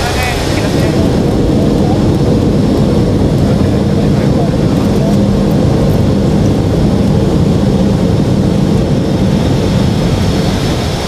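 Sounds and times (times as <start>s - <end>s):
aircraft airflow and engine rumble: 0.0s - 11.0s.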